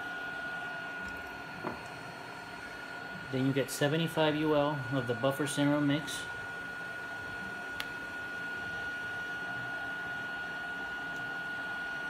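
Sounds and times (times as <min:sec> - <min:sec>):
high-pitched electrical whine: 0:00.0 - 0:12.0
low machine hum: 0:00.0 - 0:12.0.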